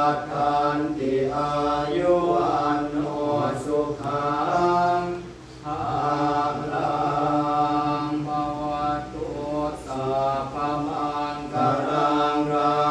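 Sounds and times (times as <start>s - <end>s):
monks chanting together: 0.0s - 12.9s.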